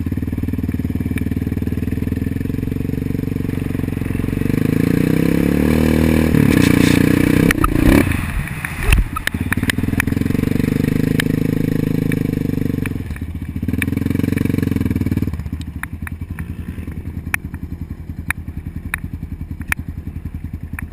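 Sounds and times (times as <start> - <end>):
atv engine revving and idling: 0.0 - 20.9.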